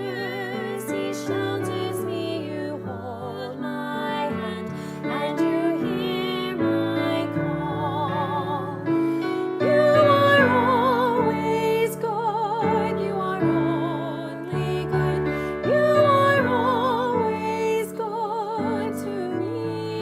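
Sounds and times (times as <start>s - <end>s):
person singing with vibrato: 0.0s - 20.0s
piano chords: 0.0s - 20.0s.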